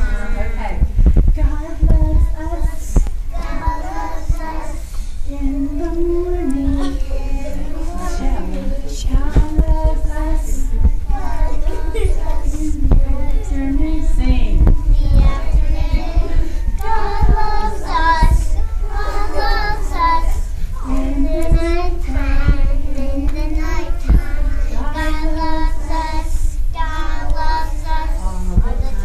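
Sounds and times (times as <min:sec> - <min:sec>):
young children singing: 0:01.4 - 0:29.0.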